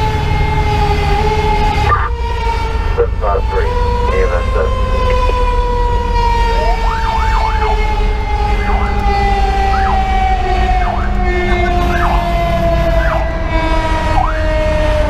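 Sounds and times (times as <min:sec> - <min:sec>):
engine and road rumble: 0:00.0 - 0:15.0
mechanical siren winding down: 0:00.4 - 0:15.0
electronic siren sweeps: 0:00.7 - 0:15.0.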